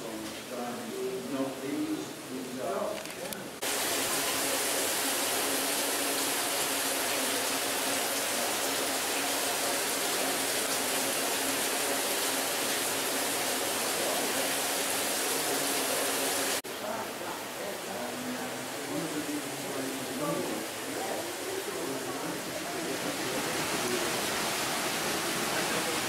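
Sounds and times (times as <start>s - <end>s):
water splashing over waterwheel: 3.6s - 26.0s.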